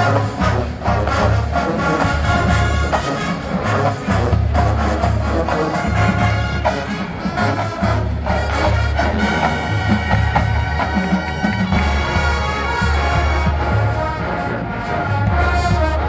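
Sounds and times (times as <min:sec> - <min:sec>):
heavy low brass: 0:00.0 - 0:16.0
trumpets and trombones: 0:00.0 - 0:16.0.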